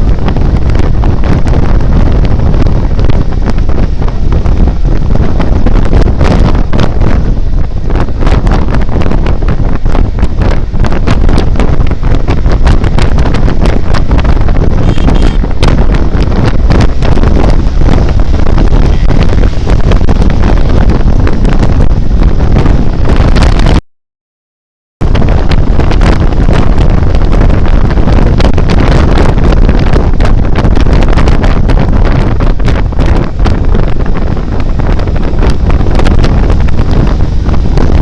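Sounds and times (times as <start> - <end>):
motorcycle engine running: 0.0 - 23.8, 25.0 - 38.0
wind buffeting microphone: 0.0 - 23.8, 25.0 - 38.0.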